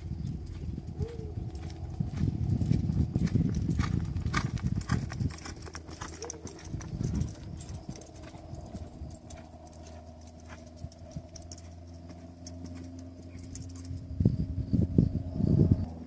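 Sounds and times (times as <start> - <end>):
muffled hoofbeats on sand: 0.0 - 13.8
steady low hum: 0.0 - 16.0.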